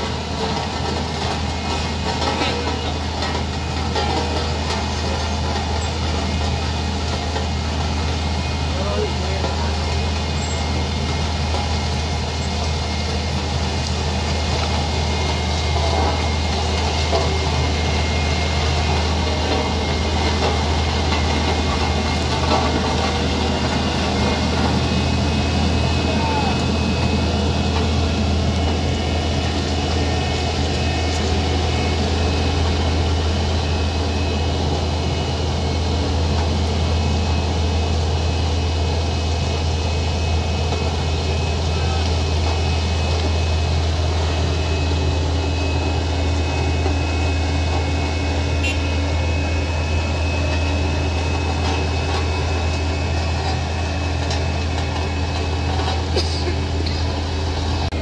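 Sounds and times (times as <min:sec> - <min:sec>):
vehicle engine droning: 0:00.0 - 0:58.0.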